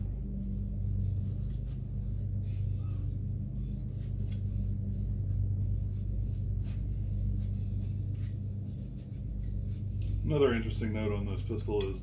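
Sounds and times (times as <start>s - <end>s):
steady low hum: 0.0s - 12.0s
paper towel rustling: 0.2s - 11.1s.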